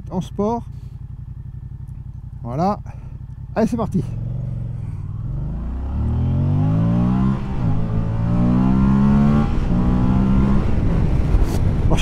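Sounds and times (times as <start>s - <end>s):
motorcycle engine accelerating hard: 0.3s - 12.0s.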